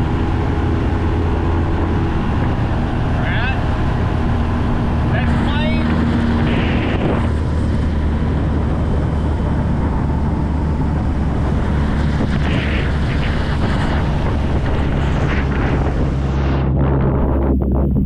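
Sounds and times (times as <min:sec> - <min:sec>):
outboard motor running: 0:00.0 - 0:18.0
wind buffeting microphone: 0:00.0 - 0:18.0.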